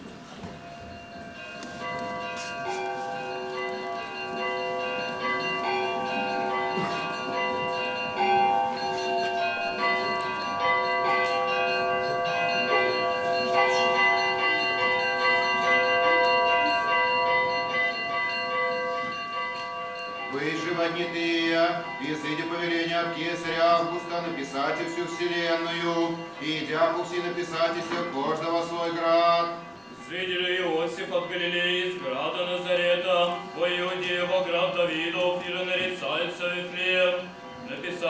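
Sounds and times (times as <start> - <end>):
church bells ringing a peal: 0.0 - 38.0.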